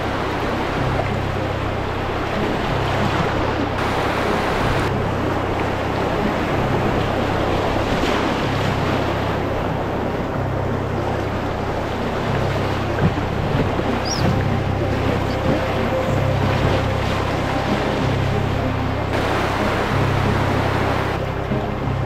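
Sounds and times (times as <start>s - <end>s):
river rapid rushing: 0.0s - 22.0s
wind rumble on microphone: 0.0s - 22.0s.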